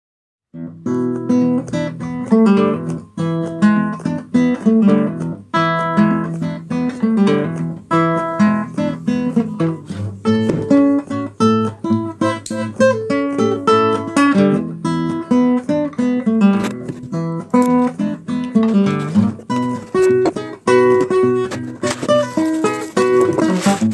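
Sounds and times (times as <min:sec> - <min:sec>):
acoustic guitar playing blues: 0:00.5 - 0:23.9.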